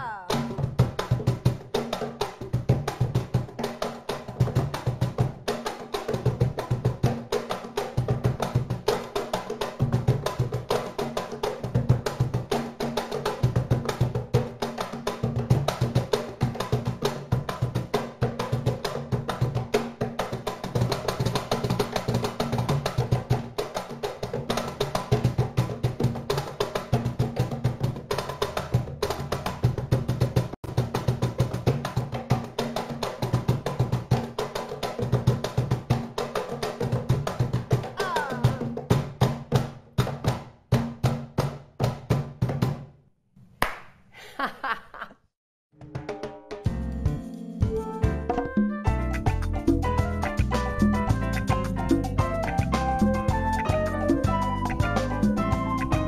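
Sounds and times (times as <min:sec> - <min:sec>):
cajon drumming by hand: 0:00.0 - 0:42.9, 0:45.8 - 0:56.0.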